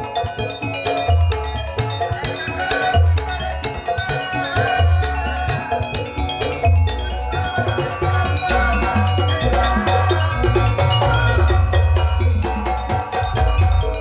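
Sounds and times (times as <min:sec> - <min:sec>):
instrumental music with percussion: 0:00.0 - 0:14.0.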